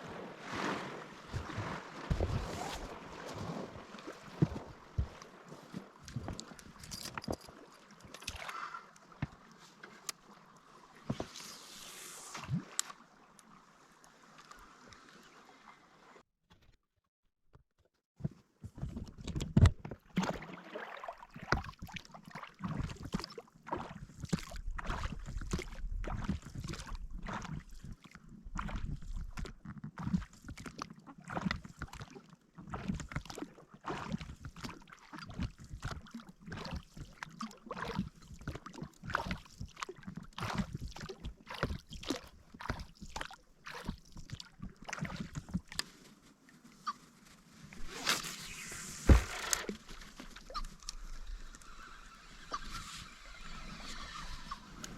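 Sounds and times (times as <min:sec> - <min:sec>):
water lapping: 0:00.0 - 0:16.2, 0:19.9 - 0:54.9.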